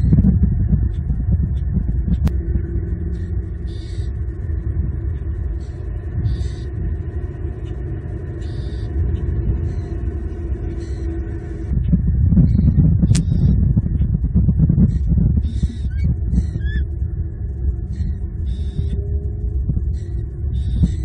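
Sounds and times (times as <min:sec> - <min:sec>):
faint steady hum: 0:00.0 - 0:21.0
low rumble: 0:00.0 - 0:21.0.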